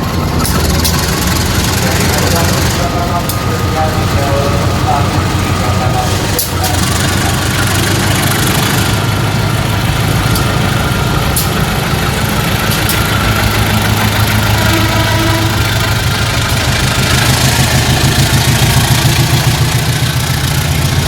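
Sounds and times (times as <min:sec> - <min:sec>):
diesel locomotive engine idling: 0:00.0 - 0:21.0.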